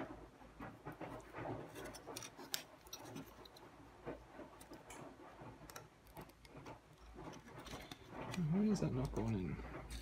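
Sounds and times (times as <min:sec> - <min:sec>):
clicks and scrapes of circuit board: 0:00.6 - 0:10.0.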